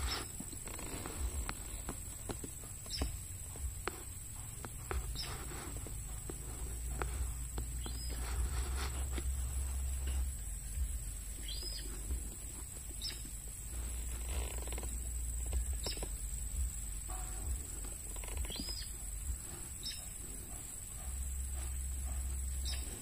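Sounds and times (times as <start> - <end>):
birds chirping: 0.0 - 23.0
low rumble: 0.0 - 23.0.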